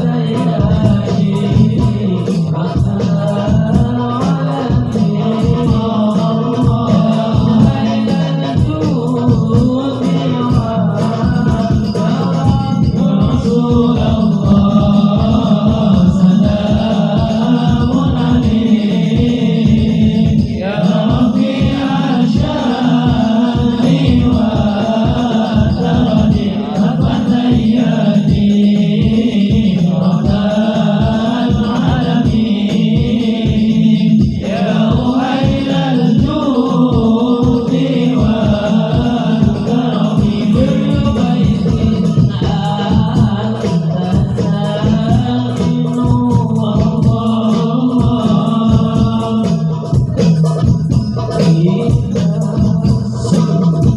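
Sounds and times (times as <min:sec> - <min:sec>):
fast percussion beat: 0:00.0 - 0:53.9
voices chanting devotional song: 0:00.0 - 0:53.9.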